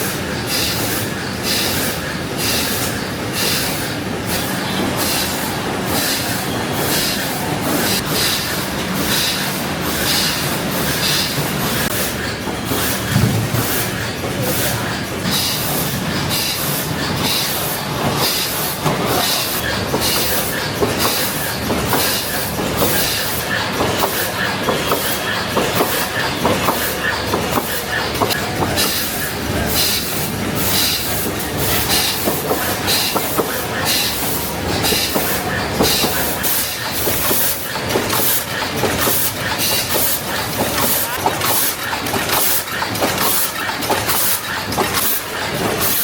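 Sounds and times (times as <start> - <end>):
factory machinery clattering: 0.0 - 46.0
machinery hiss and rumble: 0.0 - 46.0.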